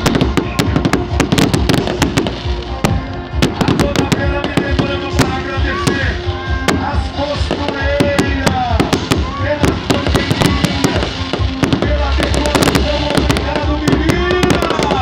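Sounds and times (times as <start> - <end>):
firecrackers going off: 0.0 - 15.0
music playing: 0.0 - 15.0.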